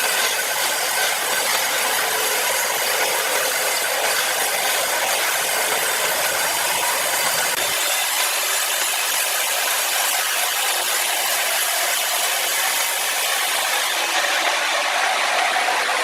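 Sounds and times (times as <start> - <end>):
power saw cutting a log: 0.0 - 16.0.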